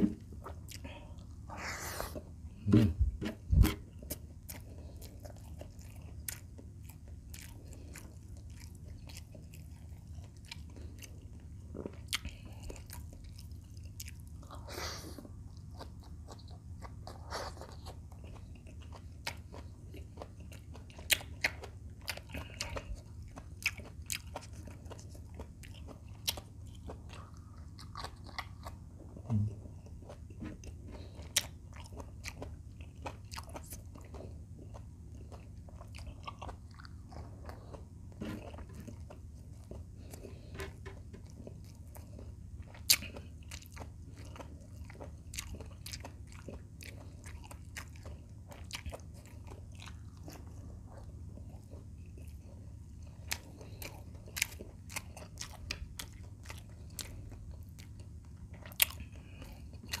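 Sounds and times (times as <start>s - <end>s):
faint low hum: 0.0s - 60.0s
man chewing crunchy food: 0.0s - 60.0s.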